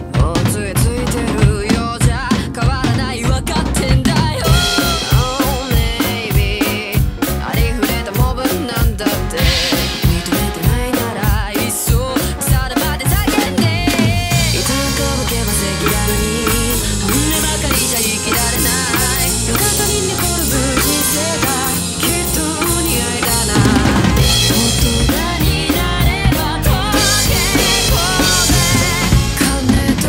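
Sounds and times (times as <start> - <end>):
drum kit groove: 0.0 - 30.0
pop song with female singer: 0.0 - 30.0.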